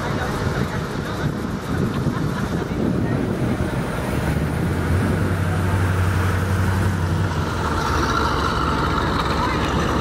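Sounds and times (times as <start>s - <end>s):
car engine running: 0.0s - 10.0s
open-air background noise: 0.0s - 10.0s.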